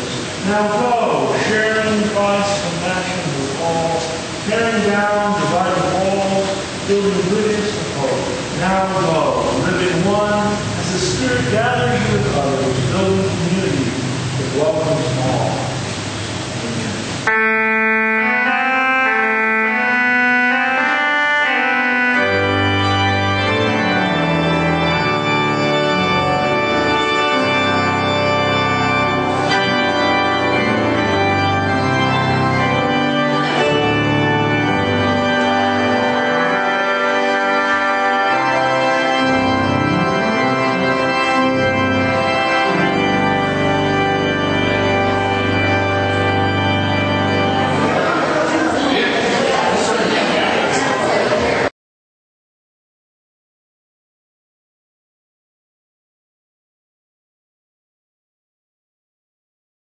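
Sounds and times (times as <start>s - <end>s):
low organ bass notes: 0.0s - 49.7s
church organ chords: 0.0s - 50.7s.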